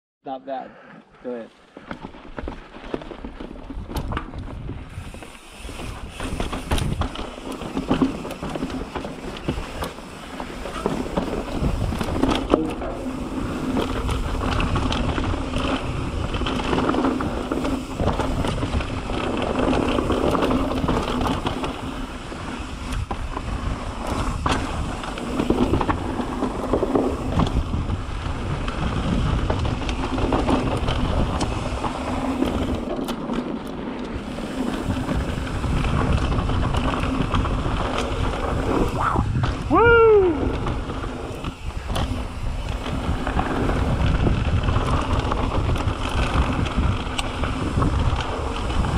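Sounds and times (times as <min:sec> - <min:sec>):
tyres on loose dirt and stones: 0:01.2 - 0:48.9
bike knocking and rattling: 0:01.7 - 0:48.9
wind rushing over microphone: 0:03.6 - 0:32.9, 0:34.1 - 0:48.9.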